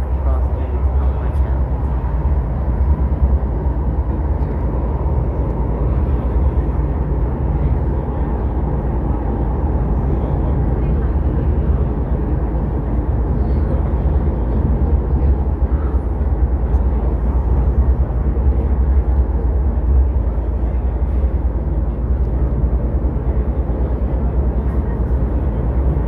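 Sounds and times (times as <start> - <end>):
train rumbling inside carriage: 0.0 - 26.0.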